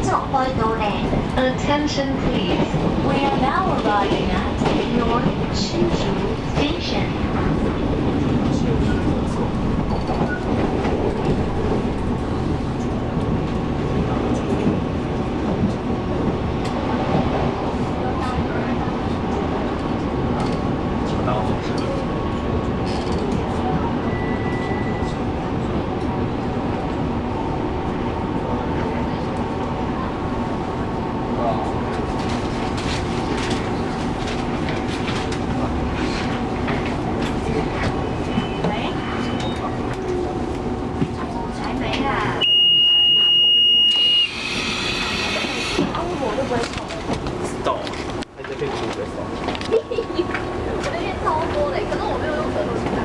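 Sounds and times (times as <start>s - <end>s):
train wheels rumbling: 0.0s - 42.4s, 43.9s - 53.0s.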